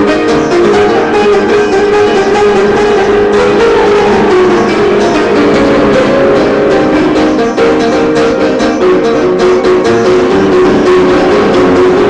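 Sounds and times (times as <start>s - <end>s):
upright piano playing: 0.0s - 12.0s.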